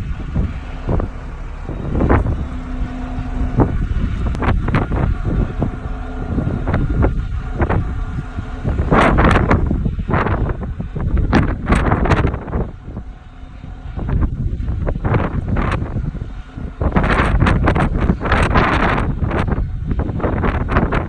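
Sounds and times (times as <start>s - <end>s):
truck engine rumbling: 0.0s - 21.0s
wind buffeting microphone: 0.0s - 21.0s.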